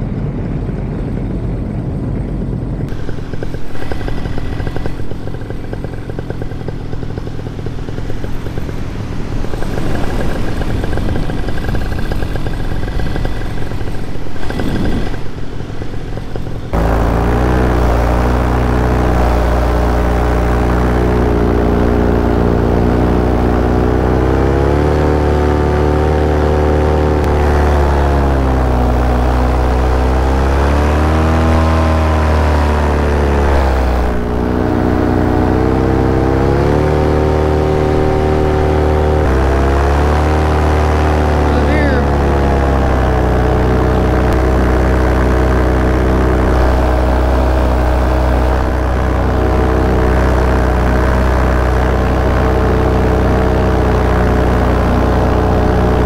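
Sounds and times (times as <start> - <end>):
small aircraft engine drone: 0.0 - 56.0.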